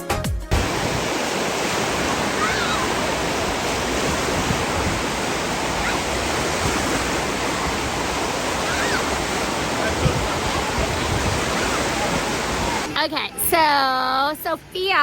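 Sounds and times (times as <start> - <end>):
rushing and splashing water: 0.5 - 13.0.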